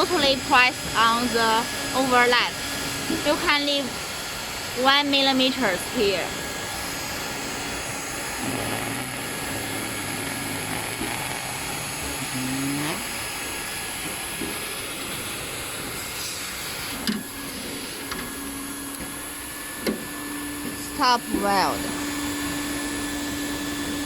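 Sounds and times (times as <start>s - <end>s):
hot air welding blower hiss: 0.0s - 24.0s.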